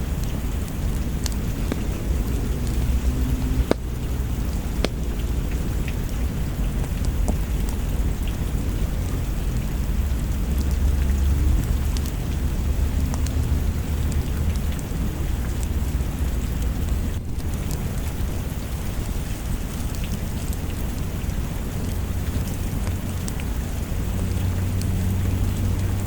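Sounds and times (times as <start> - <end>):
heavy low rumble: 0.0 - 26.0
steady rain: 0.0 - 26.0.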